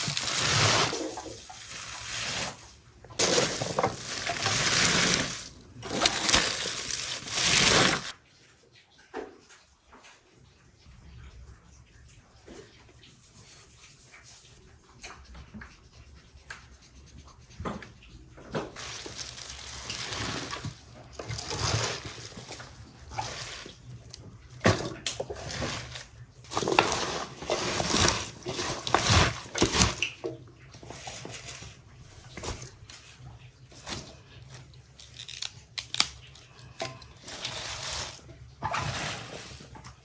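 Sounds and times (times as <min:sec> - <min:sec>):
rustling and scraping: 0:00.0 - 0:08.2, 0:15.4 - 0:40.0.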